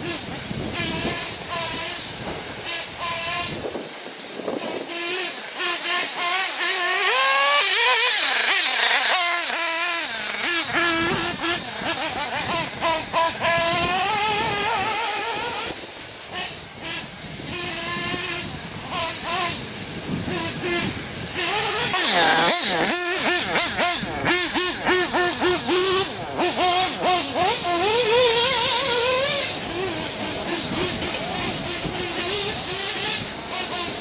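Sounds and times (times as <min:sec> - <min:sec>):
rc car motor whining: 0:00.0 - 0:34.0
steady high hiss: 0:00.0 - 0:34.0.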